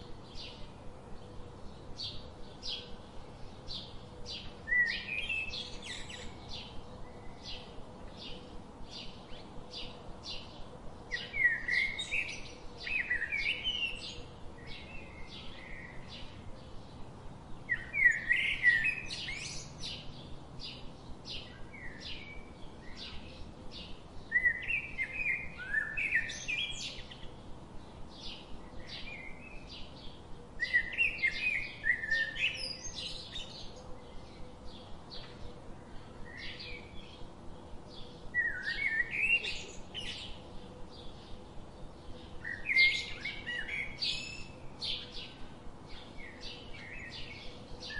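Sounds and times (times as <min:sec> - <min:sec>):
complex bird song phrase: 0:00.3 - 0:47.9.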